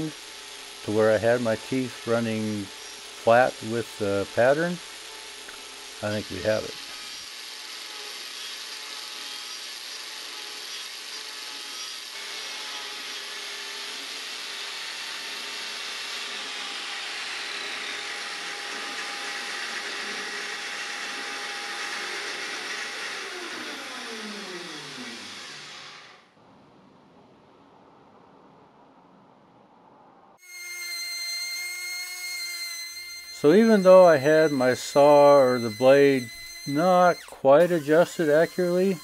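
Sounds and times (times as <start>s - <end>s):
grinder winding down: 0.0s - 26.2s, 30.4s - 39.0s
angle grinder cutting wood: 0.0s - 26.3s, 30.4s - 39.0s.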